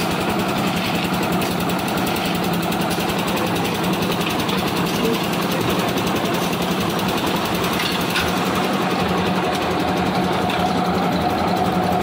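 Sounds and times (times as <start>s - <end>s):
concrete mixer engine running: 0.0s - 12.0s.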